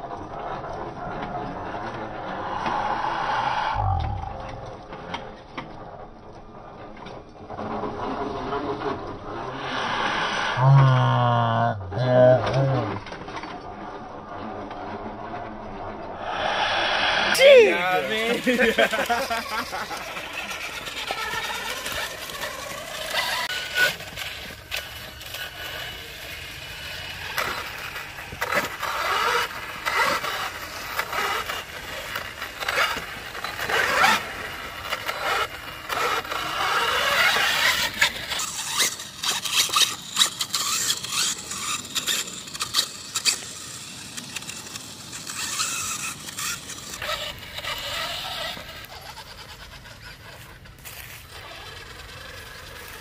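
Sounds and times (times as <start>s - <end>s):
scrapes and clicks on rough ground: 0.0s - 11.4s, 12.0s - 53.0s
electric motor and gears whining: 0.0s - 53.0s.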